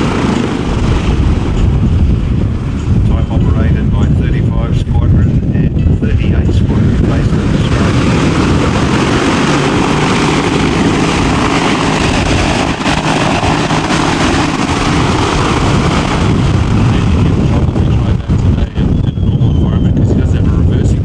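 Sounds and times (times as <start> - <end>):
propeller aircraft engines roaring: 0.0 - 21.0.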